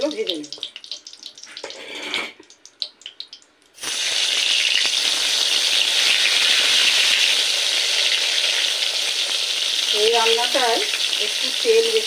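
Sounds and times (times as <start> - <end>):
vegetables sizzling in oil: 0.0 - 1.8, 3.8 - 12.0
hot oil crackling: 0.0 - 12.0.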